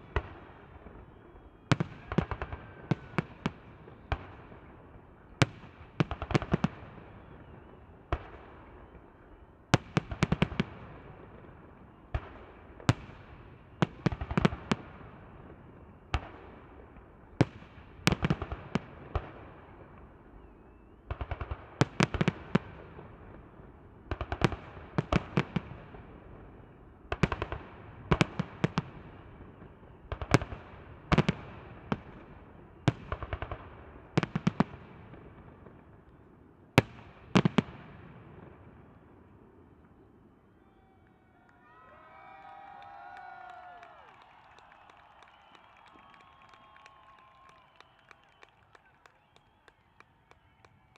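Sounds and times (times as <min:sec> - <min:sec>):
fireworks rumble and crackle: 0:00.0 - 0:41.4, 0:43.1 - 0:50.9.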